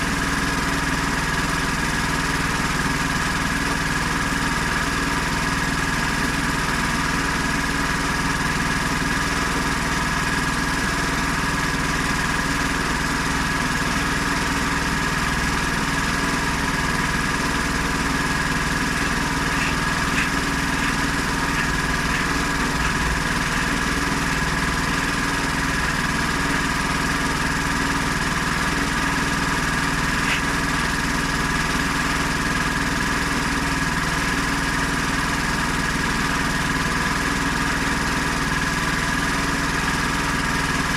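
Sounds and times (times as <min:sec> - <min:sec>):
petrol engine running steadily: 0:00.0 - 0:40.9.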